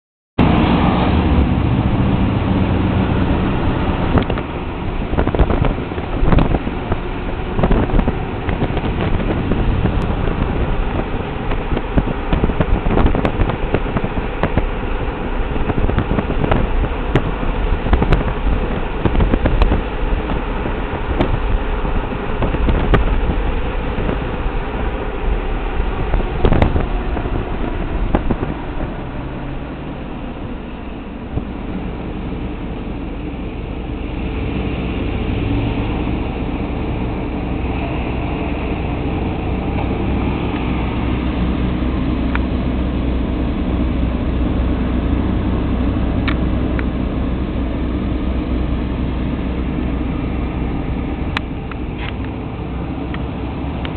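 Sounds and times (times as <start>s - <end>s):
car engine and road noise: 0.4s - 53.9s.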